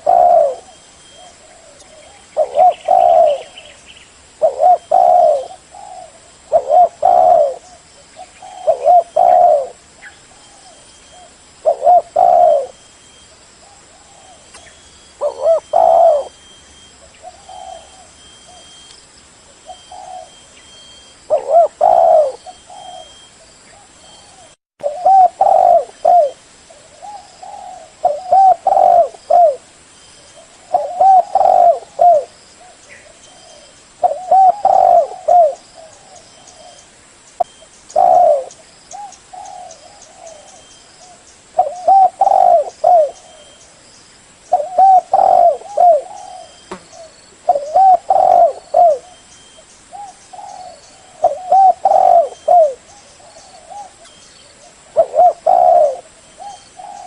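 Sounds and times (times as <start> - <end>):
dove cooing: 0.0 - 3.8, 4.4 - 12.8, 13.6 - 18.9, 19.6 - 36.8, 37.4 - 43.7, 44.5 - 57.0.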